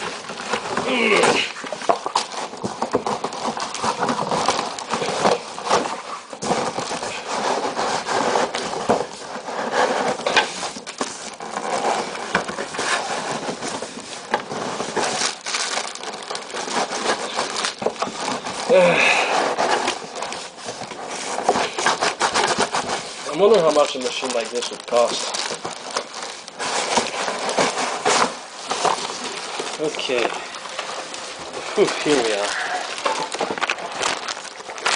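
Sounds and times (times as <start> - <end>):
cardboard tearing and scraping: 0.0 - 34.9.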